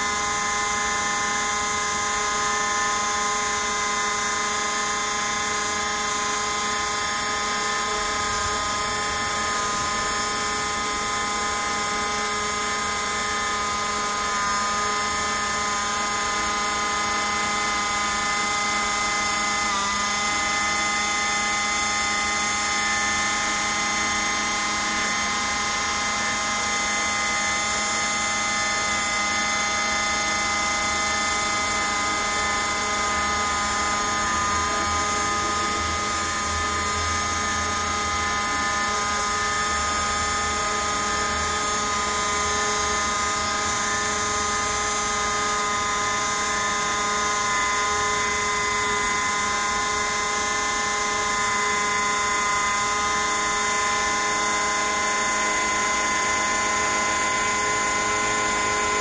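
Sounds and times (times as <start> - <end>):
router spindle whining: 0.0 - 59.0.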